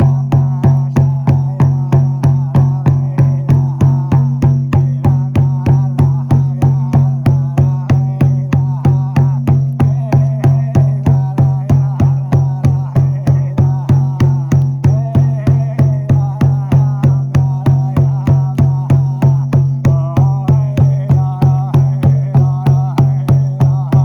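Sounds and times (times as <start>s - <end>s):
frame drum beating: 0.0s - 24.0s.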